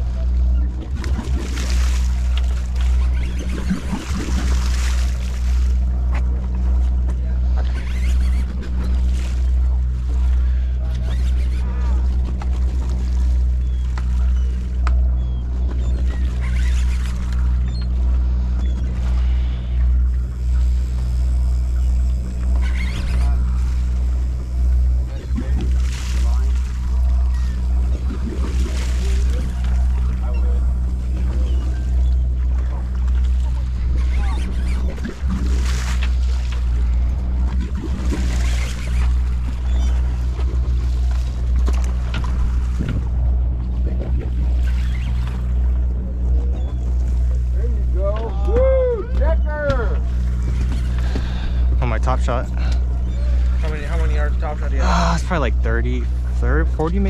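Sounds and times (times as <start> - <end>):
boat engine humming: 0.0 - 57.0
water splashing along hull: 0.0 - 57.0.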